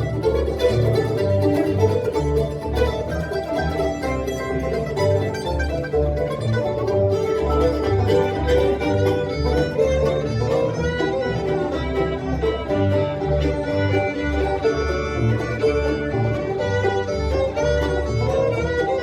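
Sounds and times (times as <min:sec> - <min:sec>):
bluegrass band playing: 0:00.0 - 0:19.0
walking bass: 0:00.0 - 0:19.0.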